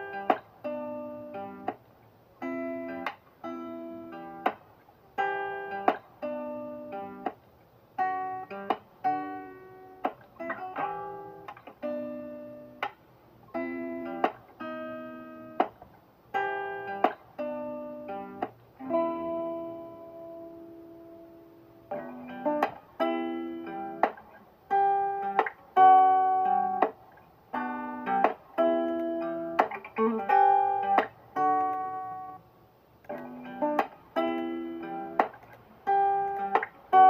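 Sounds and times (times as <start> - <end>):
strummed guitar chords: 0.0 - 1.8, 2.4 - 4.6, 5.2 - 7.4, 8.0 - 37.0.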